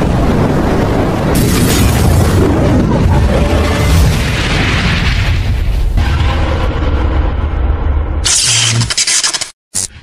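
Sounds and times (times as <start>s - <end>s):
explosion boom with rumble: 0.0s - 8.2s.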